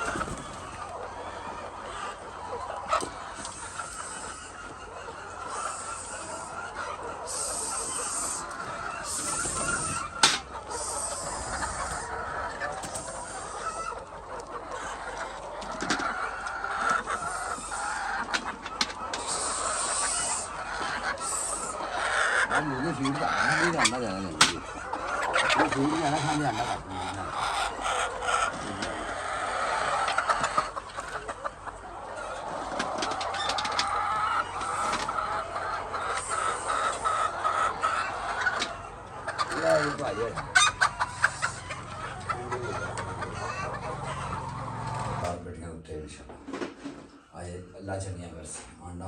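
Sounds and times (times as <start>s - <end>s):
hens clucking: 0.0s - 49.0s.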